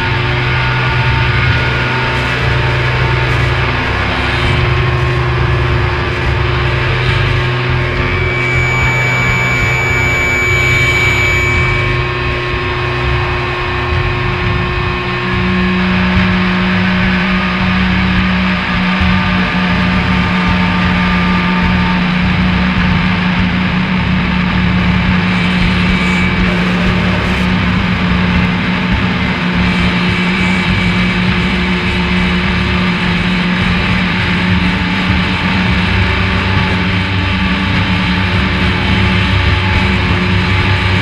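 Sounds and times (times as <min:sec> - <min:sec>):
distorted noise music: 0:00.0 - 0:41.0
strong low drone: 0:00.0 - 0:41.0.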